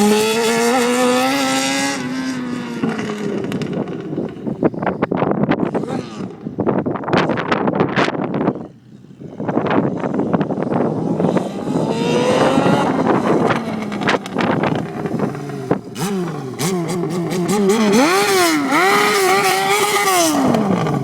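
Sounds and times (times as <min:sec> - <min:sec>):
motorcycle engine revving: 0:00.0 - 0:08.4, 0:09.2 - 0:21.0.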